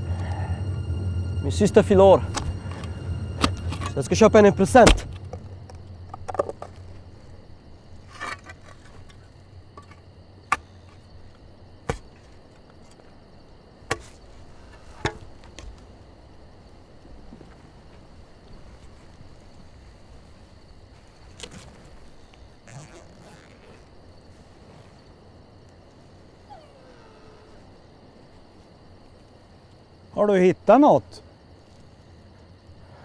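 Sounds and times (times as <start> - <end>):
crickets chirring: 0.0 - 33.0.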